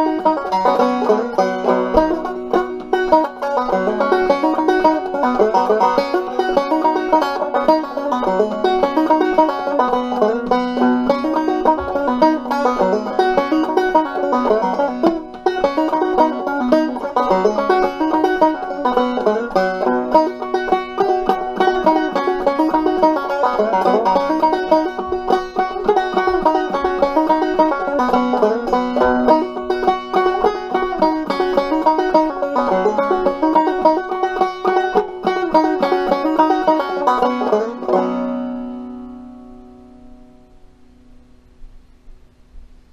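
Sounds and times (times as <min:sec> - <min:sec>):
banjo plucking and strumming: 0:00.0 - 0:40.6.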